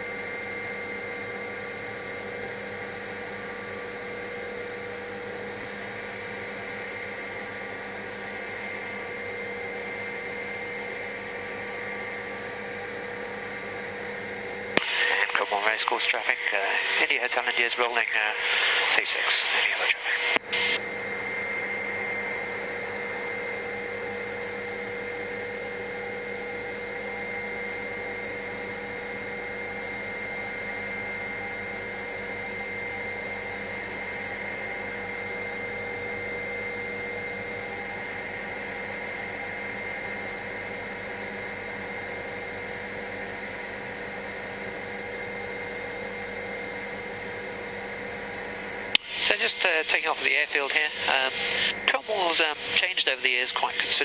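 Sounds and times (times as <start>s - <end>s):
helicopter engine and rotor whine: 0.0s - 54.0s.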